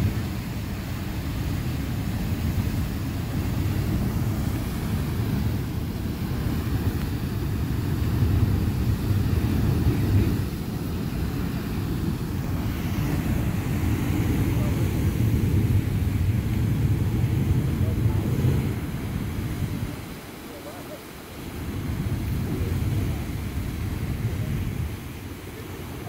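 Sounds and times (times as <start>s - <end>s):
geyser rush of water and steam: 0.0s - 26.0s.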